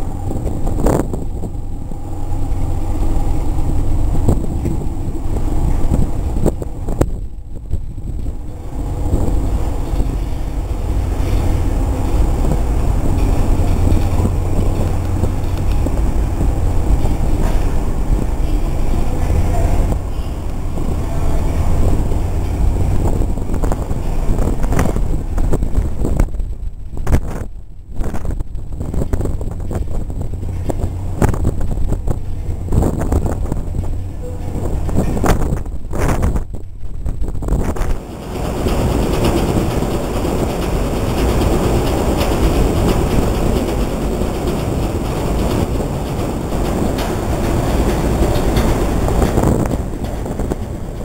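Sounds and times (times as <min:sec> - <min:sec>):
steady low rumble: 0:00.0 - 0:51.0
wind buffeting microphone: 0:00.0 - 0:51.0.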